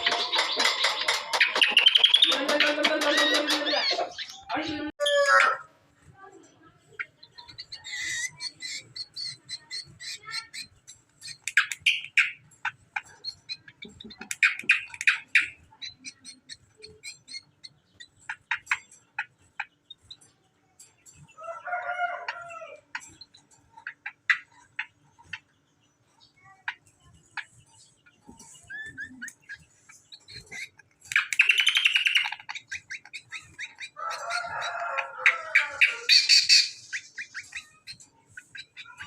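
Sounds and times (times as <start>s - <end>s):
bird chirps and trills: 0.0s - 5.4s, 6.9s - 39.0s.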